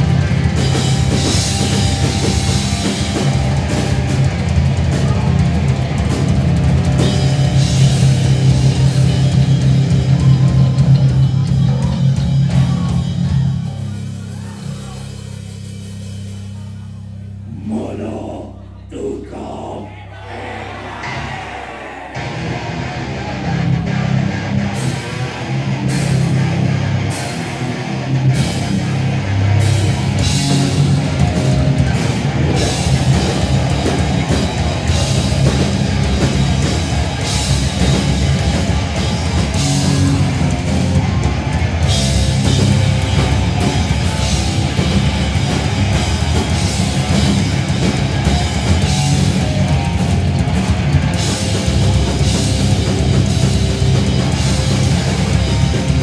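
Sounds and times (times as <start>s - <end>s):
distorted electric guitar: 0.0s - 17.8s, 22.1s - 56.0s
pounding drum kit with cymbals: 0.0s - 18.0s, 20.7s - 56.0s
bass guitar: 0.0s - 56.0s.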